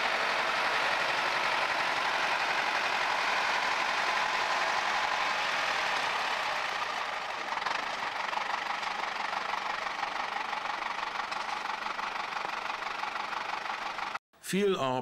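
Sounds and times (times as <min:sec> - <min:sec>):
diesel locomotive engine running: 0:00.0 - 0:14.2.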